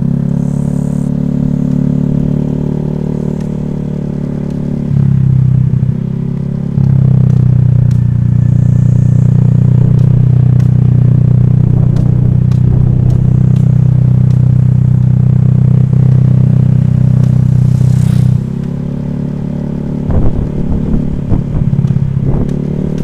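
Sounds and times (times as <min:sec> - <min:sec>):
scooter engine running: 0:00.0 - 0:23.0.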